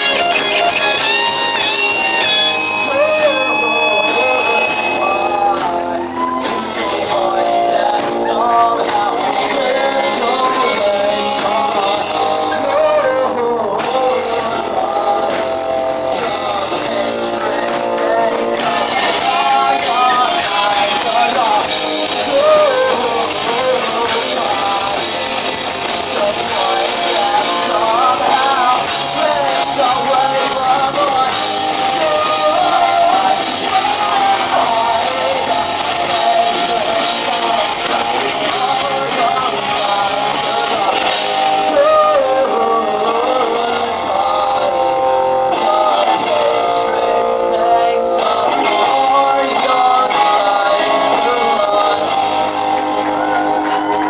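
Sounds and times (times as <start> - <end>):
live rock band: 0.0 - 54.0.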